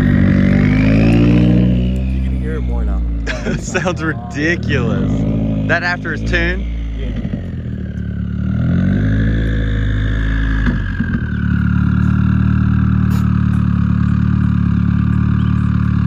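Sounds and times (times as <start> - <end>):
car engine with loud exhaust: 0.0 - 16.0.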